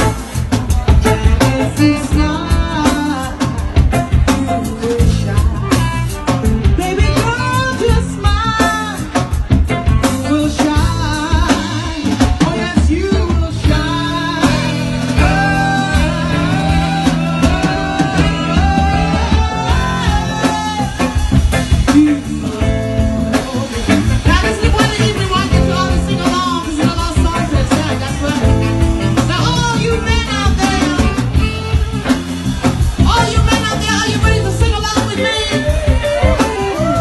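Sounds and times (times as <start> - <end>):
live band playing: 0.0 - 37.0
saxophone: 0.0 - 37.0
woman singing: 1.0 - 31.7, 33.0 - 37.0.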